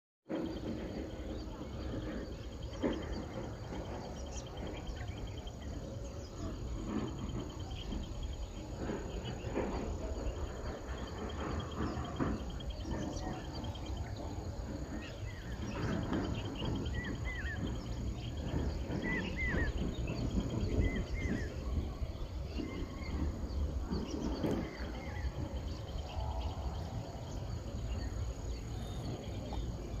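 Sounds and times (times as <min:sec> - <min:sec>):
wind rumble on microphone: 0:00.3 - 0:30.0.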